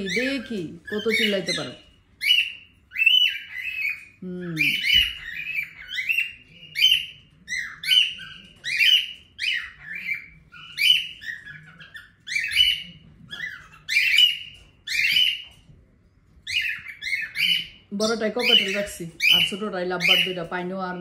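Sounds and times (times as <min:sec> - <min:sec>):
birds shrieking: 0:00.0 - 0:21.0.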